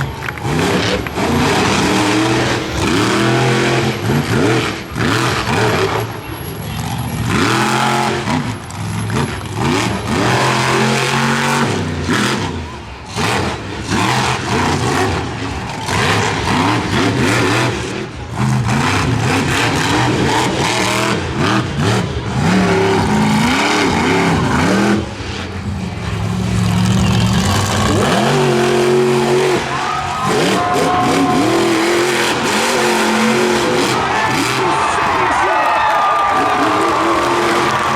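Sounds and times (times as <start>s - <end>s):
truck engine revving hard: 0.0s - 37.9s.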